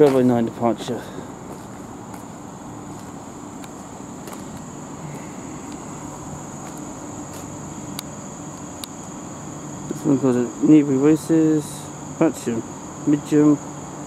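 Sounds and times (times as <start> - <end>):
high-pitched whine: 0.0 - 14.0
train low hum: 0.0 - 14.0.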